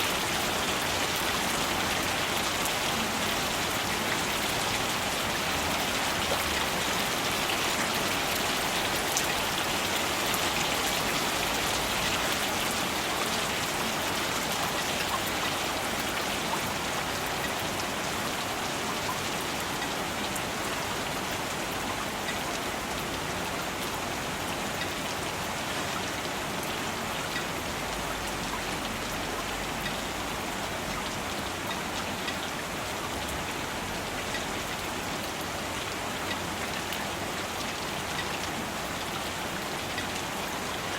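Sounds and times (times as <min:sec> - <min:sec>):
rain pattering on surfaces: 0:00.0 - 0:40.9.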